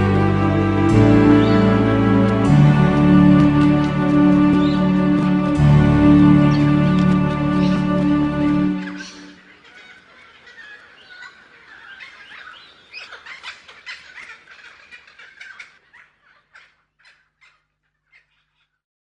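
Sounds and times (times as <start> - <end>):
songbirds chirping: 0.0 - 18.8.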